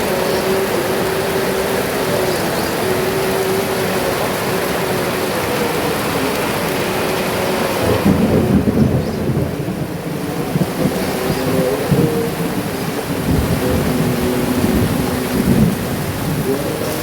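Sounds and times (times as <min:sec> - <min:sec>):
heavy rain pouring: 0:00.0 - 0:17.0
thunder rumbling: 0:00.0 - 0:17.0.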